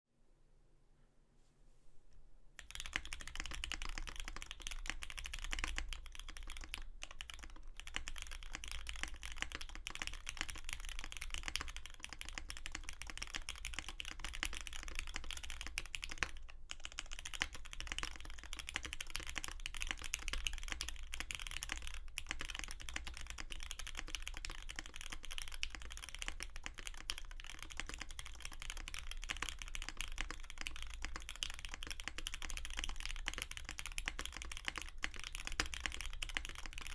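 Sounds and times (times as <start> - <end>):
mechanical keyboard typing: 2.6 - 36.9.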